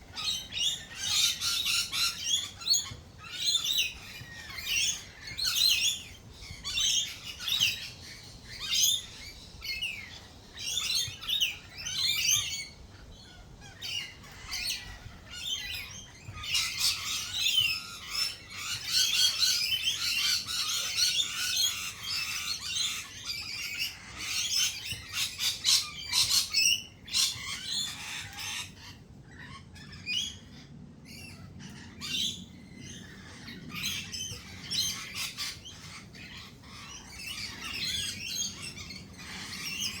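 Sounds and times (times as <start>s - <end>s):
birds chirping and squawking: 0.0s - 40.0s.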